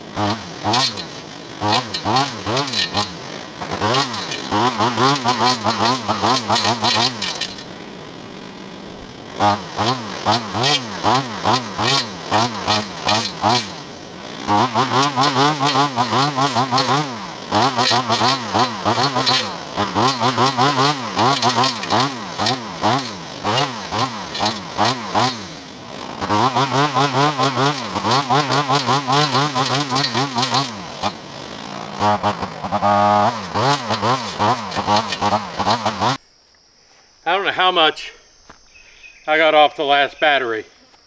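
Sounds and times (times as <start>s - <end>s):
brush cutter motor whine: 0.0s - 36.2s.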